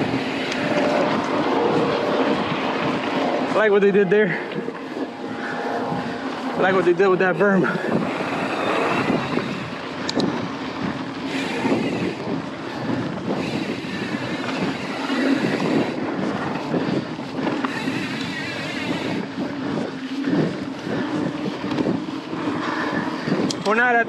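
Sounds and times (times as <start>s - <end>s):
bike tyres rolling over dirt: 0.0s - 24.0s
wind on microphone: 0.0s - 24.0s.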